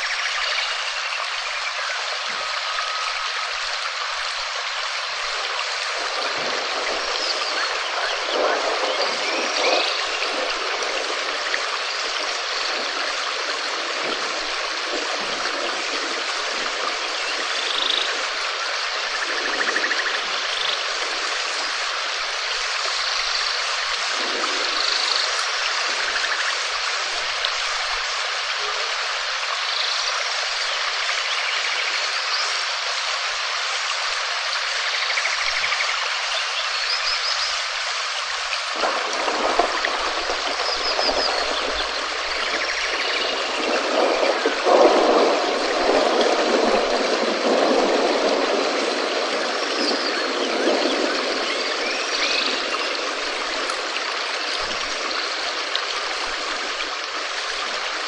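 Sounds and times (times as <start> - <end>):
steady dense rainfall: 0.0 - 58.0.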